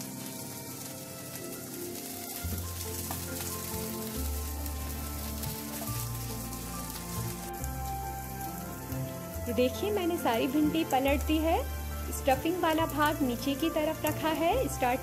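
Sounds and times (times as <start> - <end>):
music with sustained low notes: 0.0 - 15.0
okra sizzling in a pan: 0.0 - 15.0.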